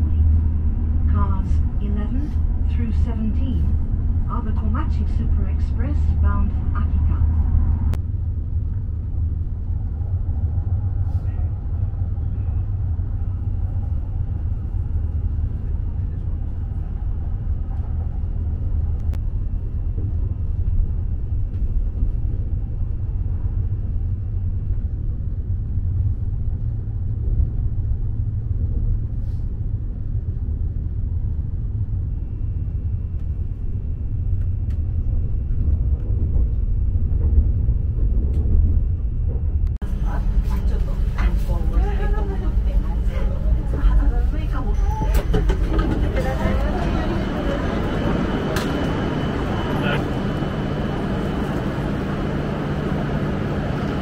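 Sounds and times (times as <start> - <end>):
train low rumble from inside cabin: 0.0 - 54.0.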